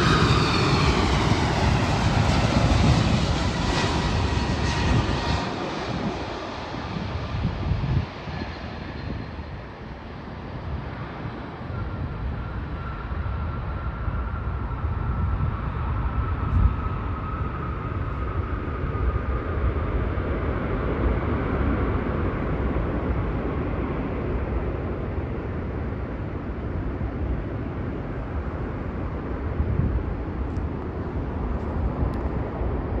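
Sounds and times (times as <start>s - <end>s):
jet engine rumble: 0.0s - 33.0s
jet engine whine: 0.0s - 33.0s.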